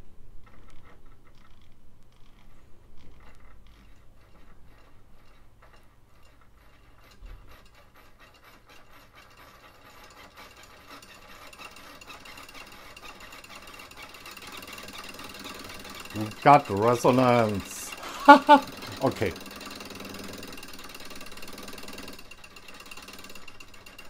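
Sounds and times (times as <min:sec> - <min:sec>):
servo gears buzzing rattle: 0:00.4 - 0:24.0.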